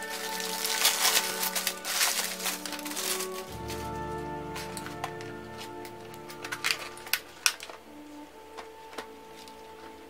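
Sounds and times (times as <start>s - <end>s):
background music sustained tones: 0.0s - 10.0s
plastic wrap crackling: 0.0s - 10.0s.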